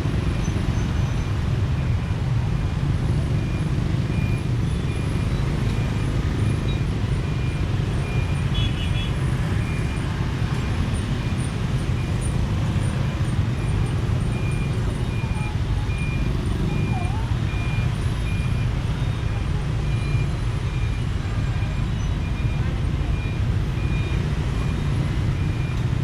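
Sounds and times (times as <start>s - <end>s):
road noise: 0.0s - 26.0s
high-pitched beep: 3.4s - 25.8s.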